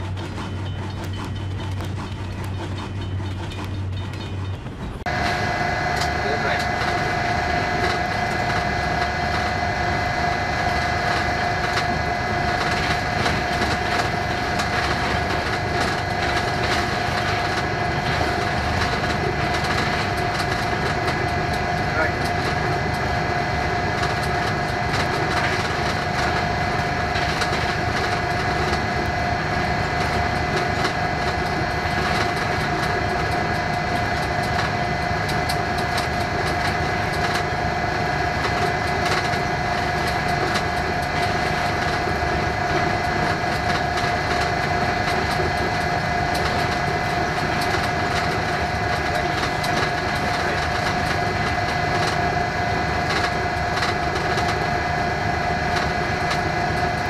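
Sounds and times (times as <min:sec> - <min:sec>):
wheel clicks on rails: 0:00.0 - 0:07.0, 0:10.6 - 0:23.2, 0:23.9 - 0:54.8, 0:55.6 - 0:57.0
constant high whine: 0:00.0 - 0:57.0
locomotive engine noise: 0:00.0 - 0:57.0.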